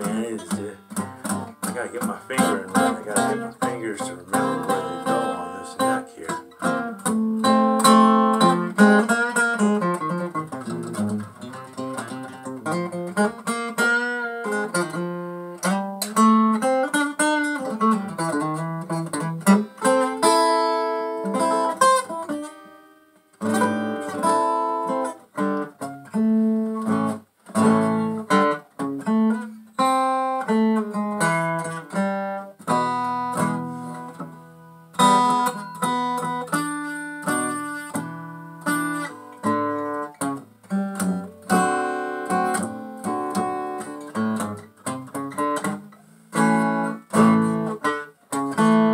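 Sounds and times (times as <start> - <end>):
acoustic guitar playing blues: 0.0 - 48.9.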